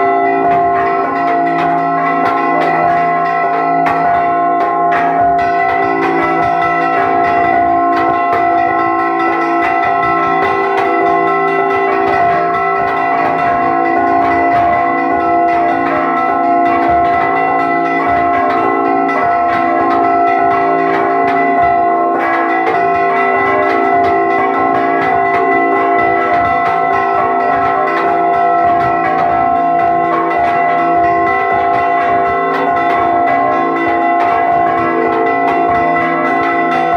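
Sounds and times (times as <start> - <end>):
church bells ringing: 0.0 - 36.9
large bell swinging: 0.0 - 36.9.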